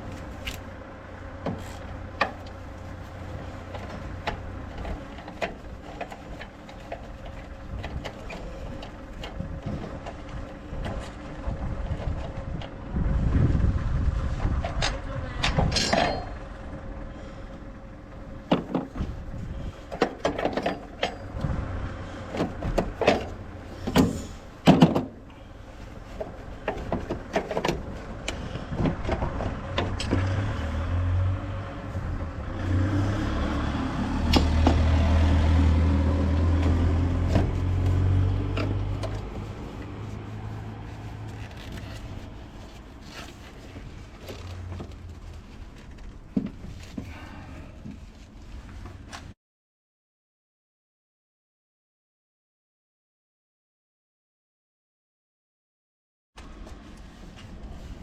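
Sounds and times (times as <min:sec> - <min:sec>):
vehicle engine hum: 0:00.0 - 0:49.4, 0:56.4 - 0:58.0.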